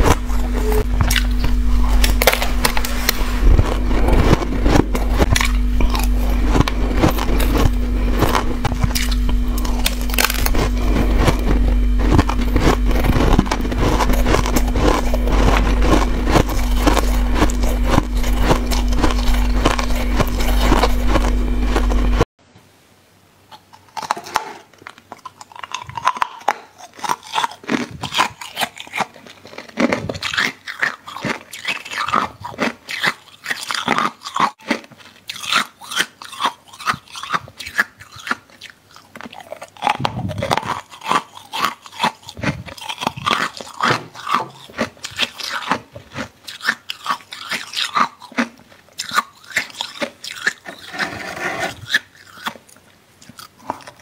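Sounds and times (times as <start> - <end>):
crunching and chewing frost: 0.0 - 22.3, 23.5 - 54.0.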